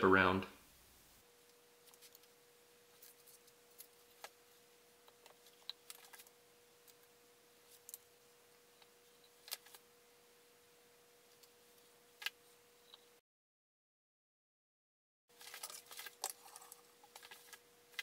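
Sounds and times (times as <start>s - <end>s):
faint steady hum: 0.0s - 13.2s, 15.3s - 18.0s.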